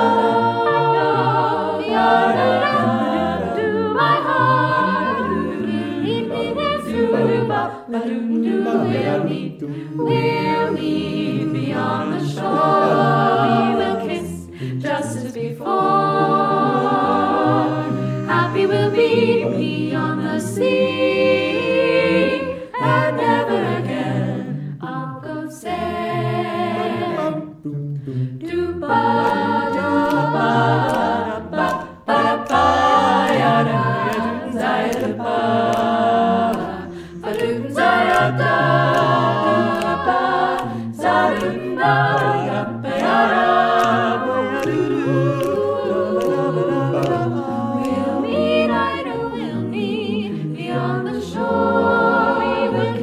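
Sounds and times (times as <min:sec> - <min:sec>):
a cappella group singing in harmony: 0:00.0 - 0:53.0.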